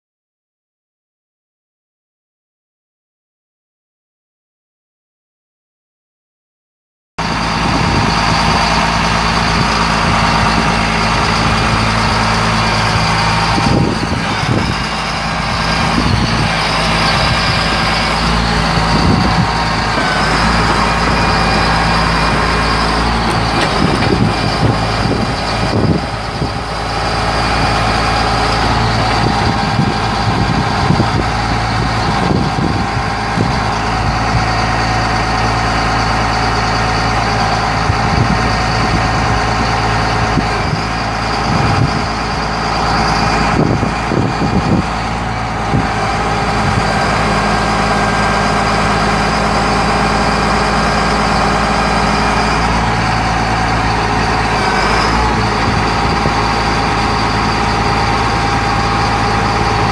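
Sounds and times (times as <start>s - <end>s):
diesel engine idling: 7.2s - 59.9s
hydraulic crane whine: 7.2s - 59.9s.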